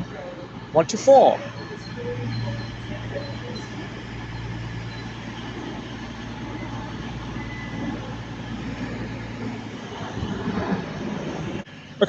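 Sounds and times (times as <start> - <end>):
diesel train engines idling: 0.0 - 12.0.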